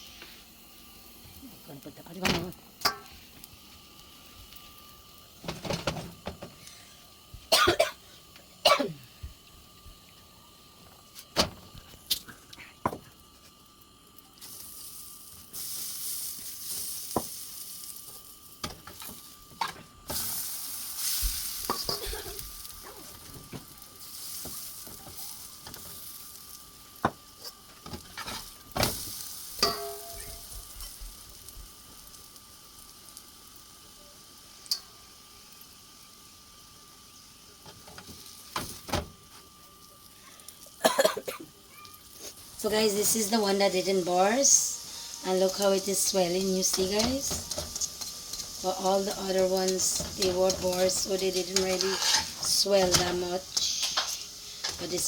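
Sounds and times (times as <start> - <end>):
loud sizzling on a pan: 0.0 - 55.0.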